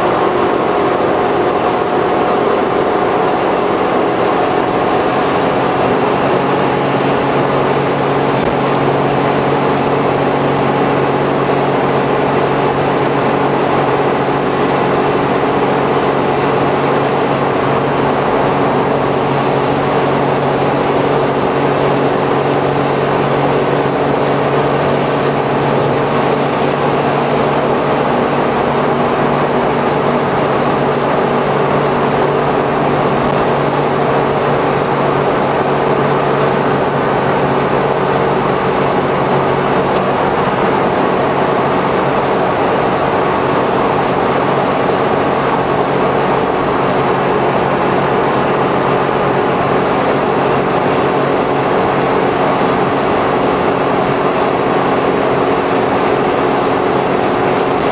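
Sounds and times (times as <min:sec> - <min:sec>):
engine drone: 0:00.0 - 0:57.9
tyre noise on wet road: 0:00.0 - 0:57.9.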